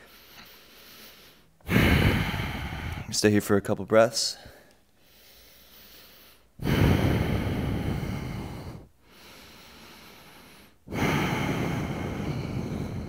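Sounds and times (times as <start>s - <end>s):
person breathing through nose: 0.0s - 3.1s, 4.4s - 13.0s.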